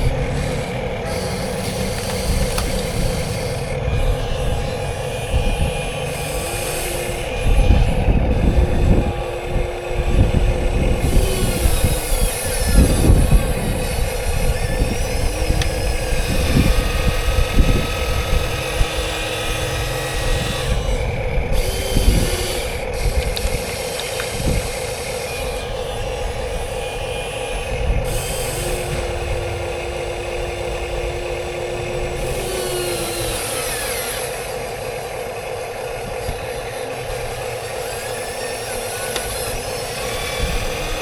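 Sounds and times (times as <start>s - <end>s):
engine drone: 0.0s - 41.0s
motor whine: 0.0s - 41.0s.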